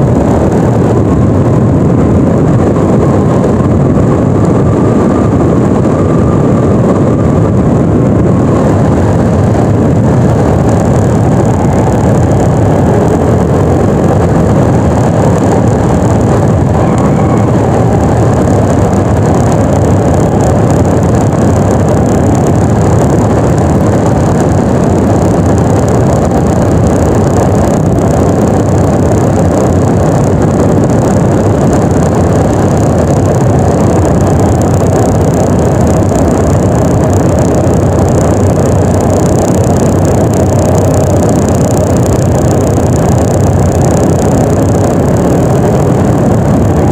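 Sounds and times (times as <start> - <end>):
scooter engine running: 0.0 - 46.9
wind noise on microphone: 0.0 - 46.9.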